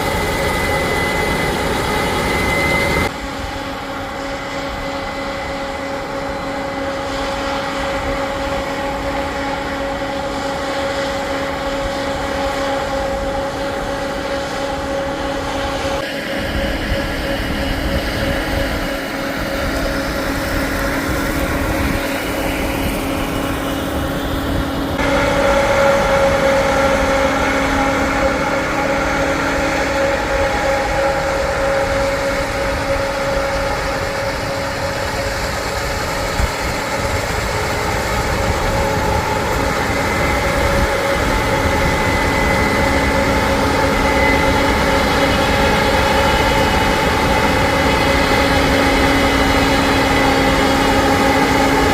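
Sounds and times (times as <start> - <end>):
diesel engine humming and whining: 0.0 - 51.9.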